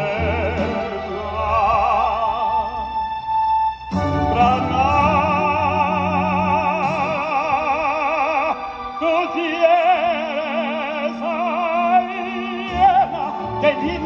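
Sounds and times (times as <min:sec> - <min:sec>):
man singing long notes with vibrato: 0:00.0 - 0:14.0.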